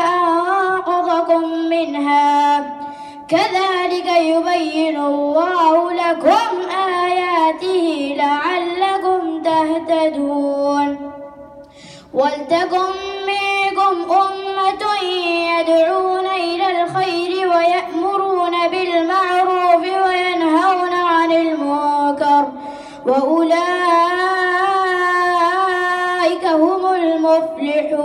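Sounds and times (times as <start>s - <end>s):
boy chanting into microphone: 0.0s - 11.2s, 12.1s - 28.0s.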